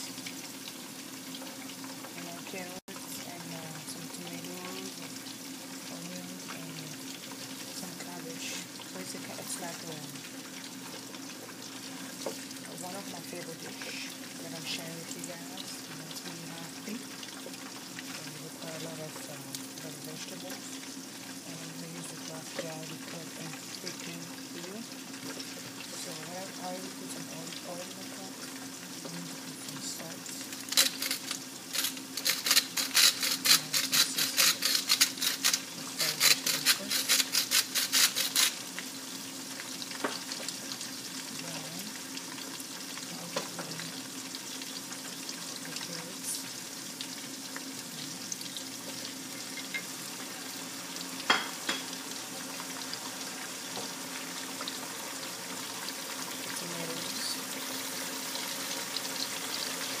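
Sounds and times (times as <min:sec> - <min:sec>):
vegetables sizzling in oil: 0:00.0 - 1:00.0.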